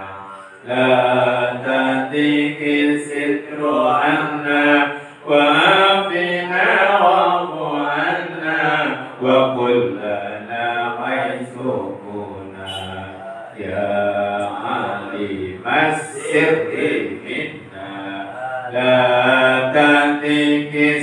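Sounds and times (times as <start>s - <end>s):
man chanting melodically: 0.0s - 21.0s.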